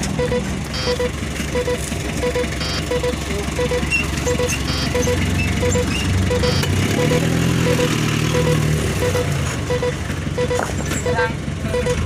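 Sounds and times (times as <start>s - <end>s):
heavy vehicle engine rumble: 0.0s - 12.0s
electronic warning beeps: 0.2s - 12.0s.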